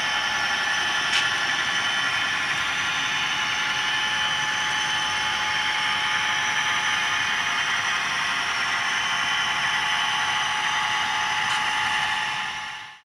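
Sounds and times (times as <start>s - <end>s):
hissy diesel engine drone: 0.0s - 13.0s.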